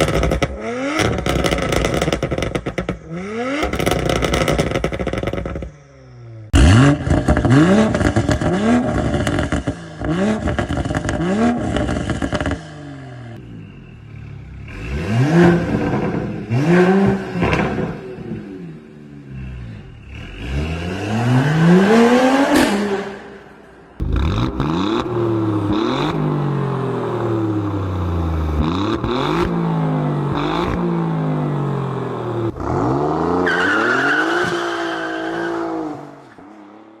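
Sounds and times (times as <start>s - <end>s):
car engine revving and accelerating: 6.2s - 37.0s.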